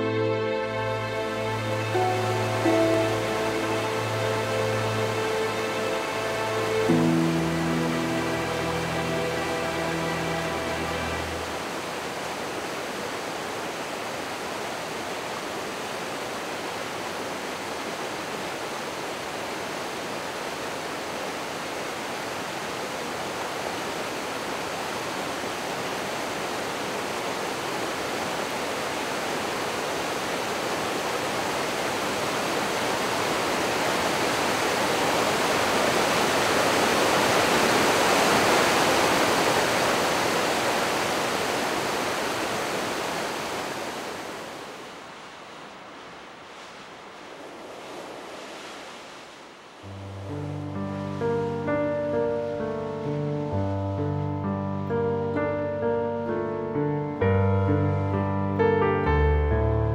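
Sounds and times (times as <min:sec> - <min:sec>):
steady rushing noise: 0:00.8 - 0:54.0.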